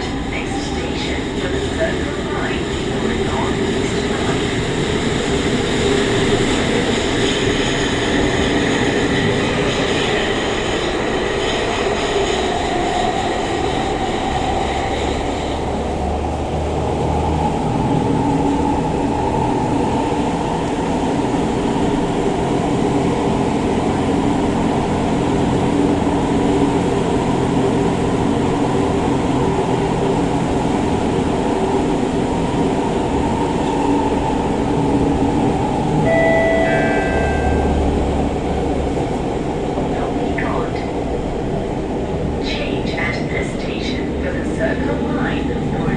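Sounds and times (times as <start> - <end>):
metro train high whining: 0.0 - 45.9
train running noise with low hum: 0.0 - 45.9.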